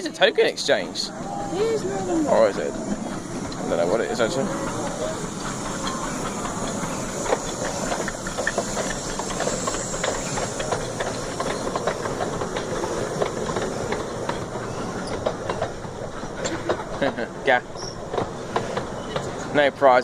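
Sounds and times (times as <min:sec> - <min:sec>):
train wheels clicking on rails: 0:00.0 - 0:20.0
steam hissing: 0:00.5 - 0:20.0.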